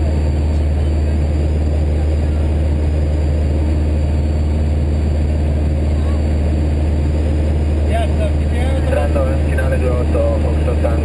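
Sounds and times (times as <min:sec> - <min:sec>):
propeller plane engine in cabin: 0:00.0 - 0:11.0.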